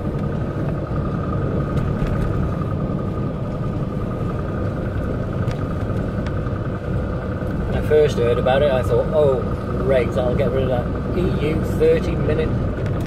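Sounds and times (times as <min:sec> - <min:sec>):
thin steady whine: 0:00.0 - 0:13.0
truck engine and road rumble: 0:00.0 - 0:13.0.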